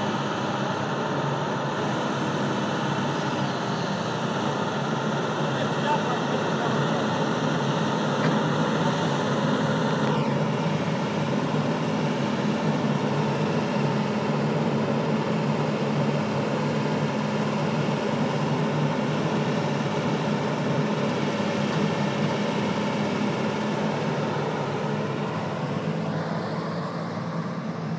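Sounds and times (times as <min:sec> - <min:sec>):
diesel excavator engine running: 0:00.0 - 0:27.9.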